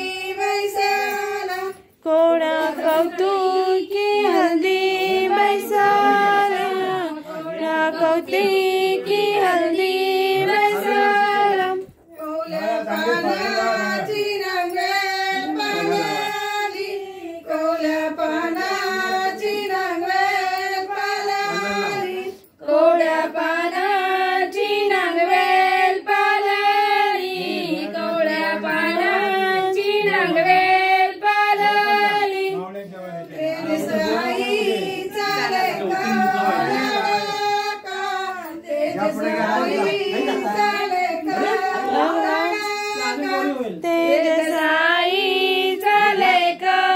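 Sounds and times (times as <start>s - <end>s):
woman singing: 0.0s - 32.5s, 33.3s - 46.9s.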